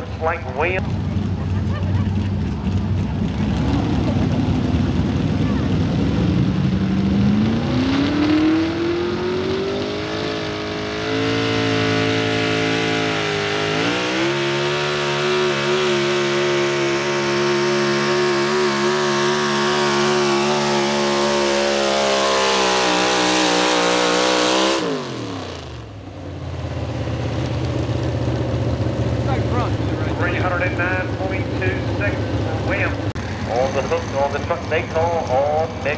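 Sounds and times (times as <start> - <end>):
truck engine at full throttle: 0.0 - 35.9.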